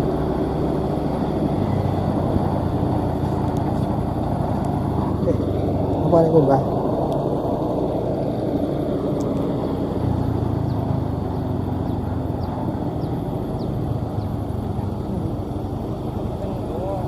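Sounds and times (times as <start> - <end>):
combine harvester engine droning: 0.0 - 17.0.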